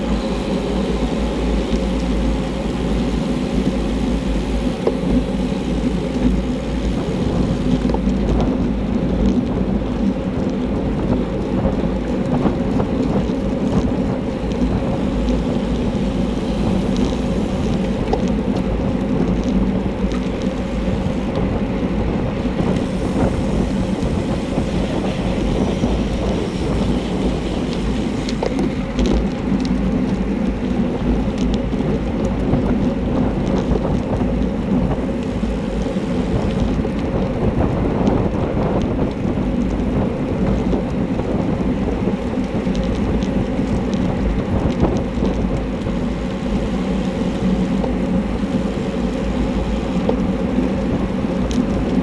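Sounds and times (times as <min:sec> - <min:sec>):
road and tyre rumble: 0:00.0 - 0:52.0
wind buffeting microphone: 0:00.0 - 0:52.0.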